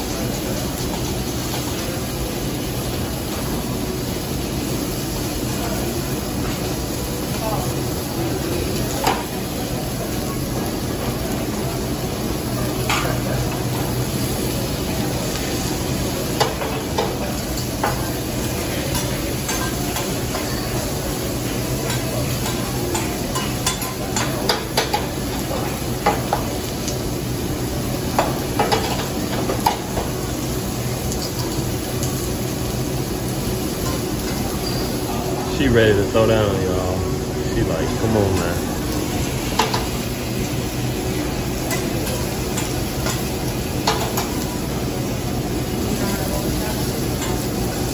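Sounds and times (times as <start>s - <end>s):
food sizzling on griddle: 0.0s - 47.9s.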